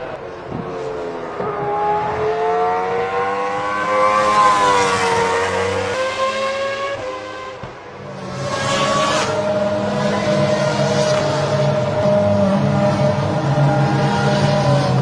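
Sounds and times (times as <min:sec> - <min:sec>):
car engine accelerating: 0:00.1 - 0:15.0.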